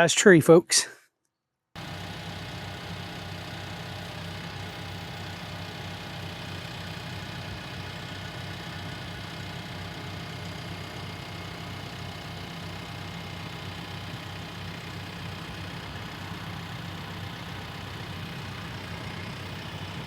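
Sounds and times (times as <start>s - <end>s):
tractor engine running: 1.8s - 20.0s.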